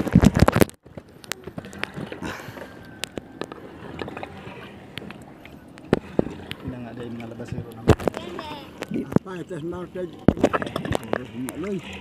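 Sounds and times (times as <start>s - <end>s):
faint water sounds: 0.0s - 12.0s.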